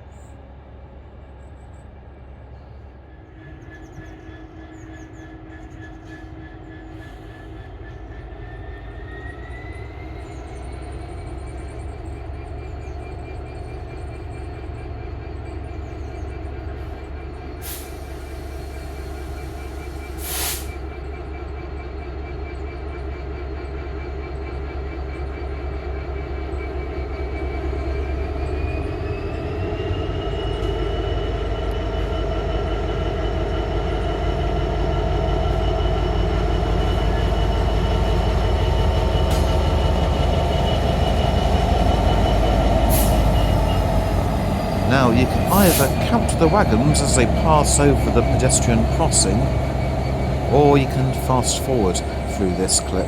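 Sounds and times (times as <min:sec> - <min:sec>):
diesel locomotive engine pulling away: 0:00.0 - 0:53.0.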